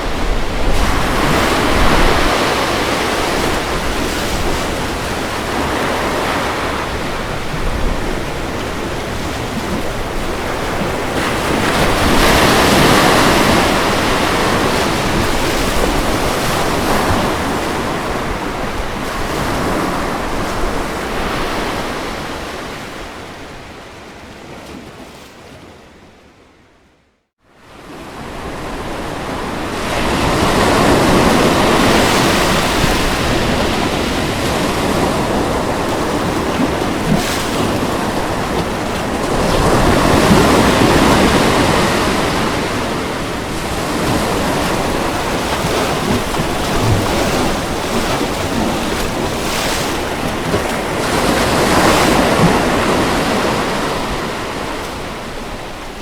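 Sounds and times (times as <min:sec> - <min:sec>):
ocean waves washing onto shore: 0:00.0 - 0:25.8, 0:27.6 - 0:56.0.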